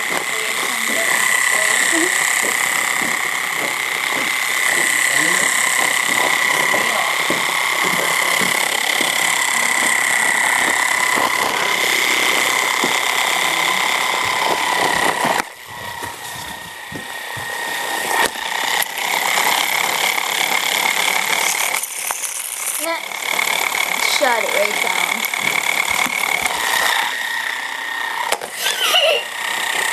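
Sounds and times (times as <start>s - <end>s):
toy motor buzzing and rattling: 0.0s - 29.9s.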